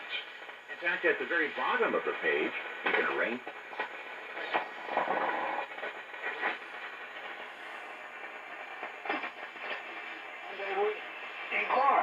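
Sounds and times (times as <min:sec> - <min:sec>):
radio static and hiss: 0:00.0 - 0:12.0
radio station audio snatches: 0:00.0 - 0:12.0.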